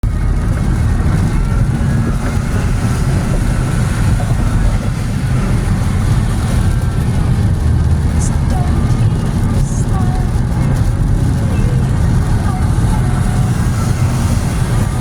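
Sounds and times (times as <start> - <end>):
road vehicle rumble: 0.0 - 15.0.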